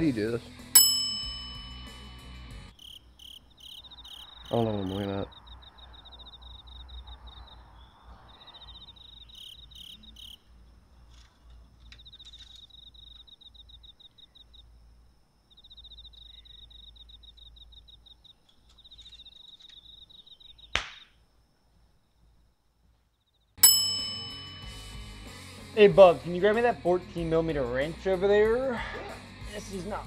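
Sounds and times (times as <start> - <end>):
cricket chirping: 0.0 - 30.0.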